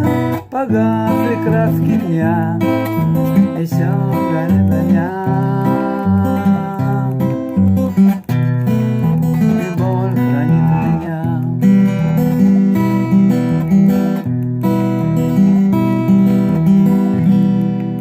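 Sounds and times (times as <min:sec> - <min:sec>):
fingerstyle acoustic guitar: 0:00.0 - 0:18.0.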